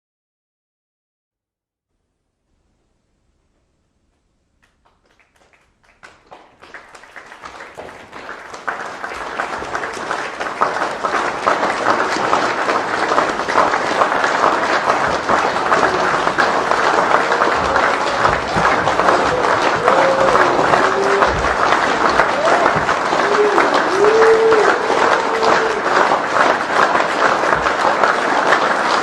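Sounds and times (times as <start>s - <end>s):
crowd applause: 4.6s - 29.0s.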